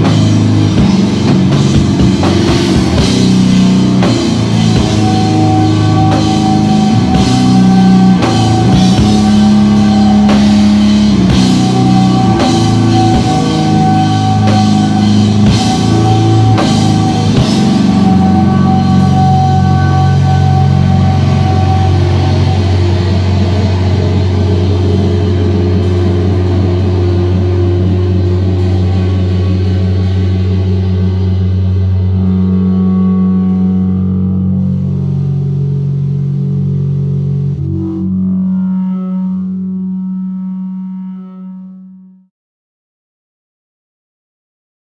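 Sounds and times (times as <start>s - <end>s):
live rock band playing: 0.0s - 37.9s
long held guitar note: 0.0s - 42.2s.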